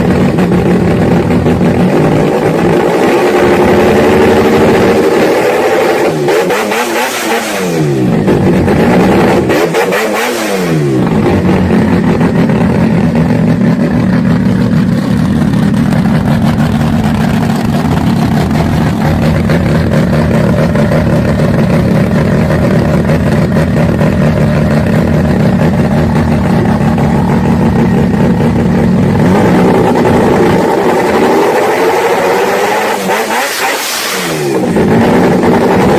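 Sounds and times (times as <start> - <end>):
engine revving: 0.0 - 35.9.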